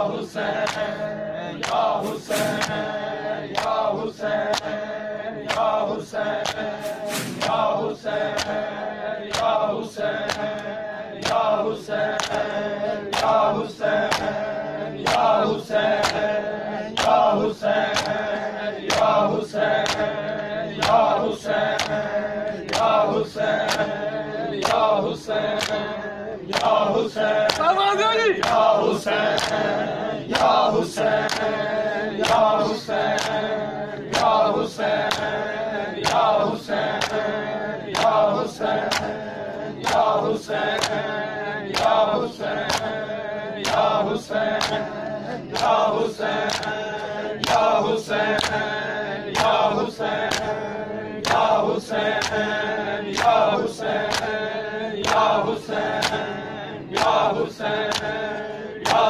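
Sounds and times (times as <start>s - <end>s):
men chanting in unison: 0.0s - 59.0s
hands slapping chests: 0.4s - 1.0s, 1.6s - 4.8s, 5.5s - 8.7s, 9.3s - 14.4s, 15.0s - 16.3s, 17.0s - 20.2s, 20.8s - 24.0s, 24.6s - 25.9s, 26.5s - 35.4s, 36.0s - 37.3s, 37.9s - 39.2s, 39.8s - 43.0s, 43.6s - 44.9s, 45.5s - 50.6s, 51.2s - 54.4s, 55.0s - 59.0s.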